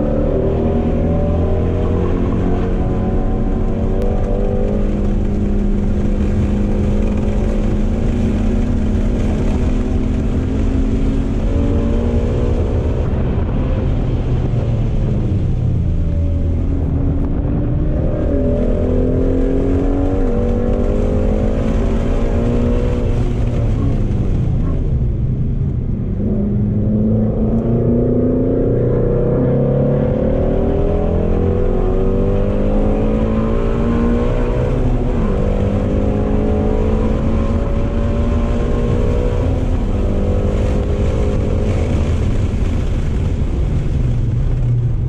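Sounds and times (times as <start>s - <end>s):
car engine revving: 0.0s - 45.0s
tyre and wind roar: 0.0s - 45.0s.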